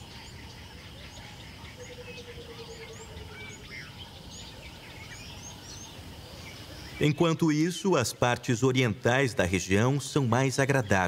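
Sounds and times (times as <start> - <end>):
small birds chirping: 0.0 - 11.0
steady background hiss: 0.0 - 11.0.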